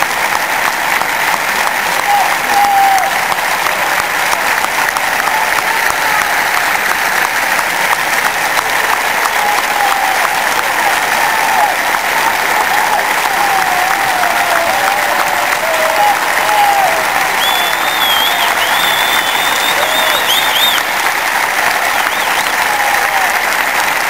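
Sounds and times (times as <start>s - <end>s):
stadium crowd applauding: 0.0s - 24.0s.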